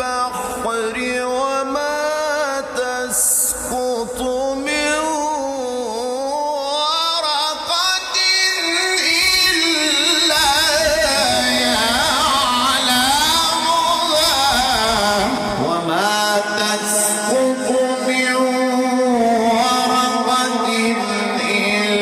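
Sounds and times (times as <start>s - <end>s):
man chanting recitation: 0.0s - 22.0s.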